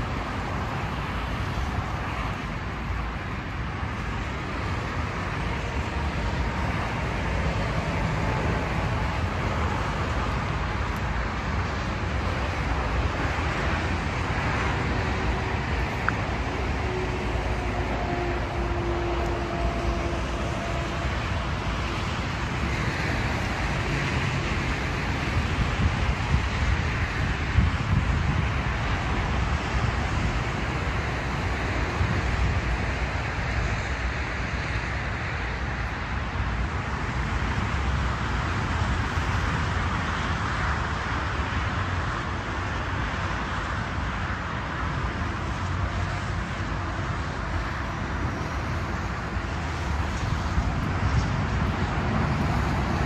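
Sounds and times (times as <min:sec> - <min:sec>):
drawn-out tones of passing vehicles: 0:00.0 - 0:53.0
motorway traffic noise: 0:00.0 - 0:53.0.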